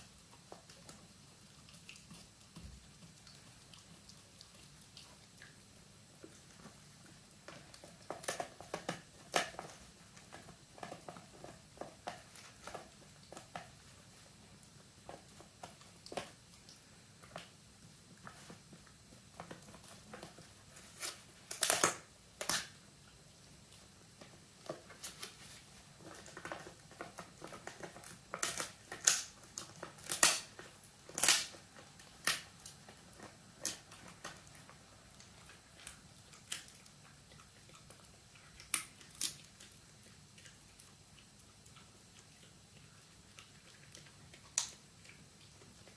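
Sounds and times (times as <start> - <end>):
dog crunching chew: 0.0 - 17.5, 18.1 - 45.9.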